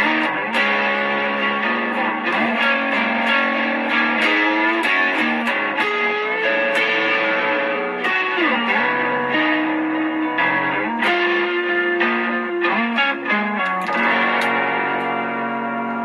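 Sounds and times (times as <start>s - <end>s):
guitar chords strummed: 0.0s - 16.0s.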